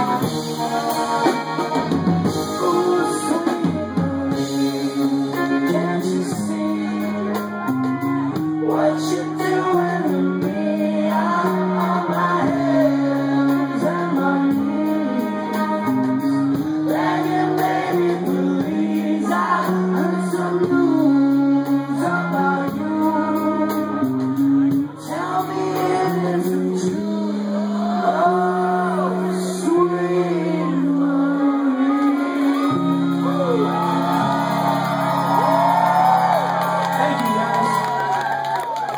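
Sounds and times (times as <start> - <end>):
rock band playing live: 0.0 - 30.8, 31.4 - 38.9
person singing: 0.0 - 35.7
guitar chords: 0.0 - 38.2.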